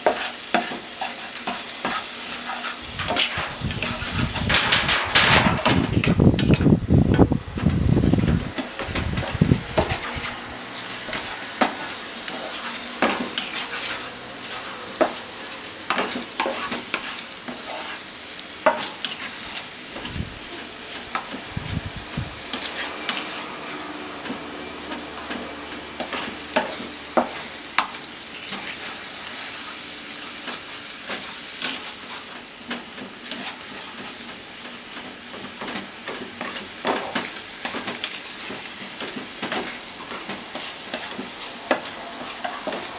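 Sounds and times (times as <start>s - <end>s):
spatula scraping and tapping pan: 0.0s - 21.4s, 22.5s - 29.0s, 29.6s - 42.9s
meat sizzling in a frying pan: 0.0s - 42.9s.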